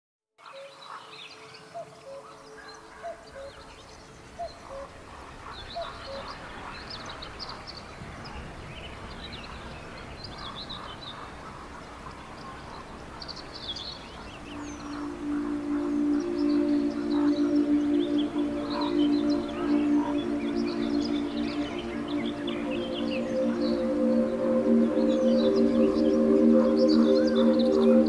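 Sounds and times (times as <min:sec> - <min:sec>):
outdoor ambience hiss: 0:00.4 - 0:28.0
small birds chirping: 0:00.4 - 0:28.0.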